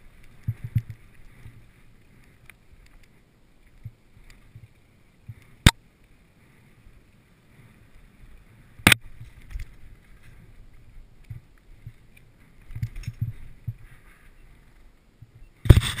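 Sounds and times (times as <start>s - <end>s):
bike tyres rumbling on dirt trail: 0.0s - 16.0s.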